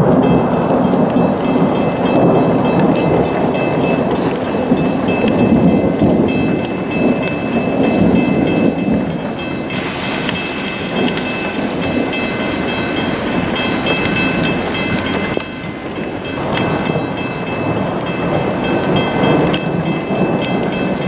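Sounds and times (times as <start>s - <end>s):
heavy rain pelting a car: 0.0s - 21.0s.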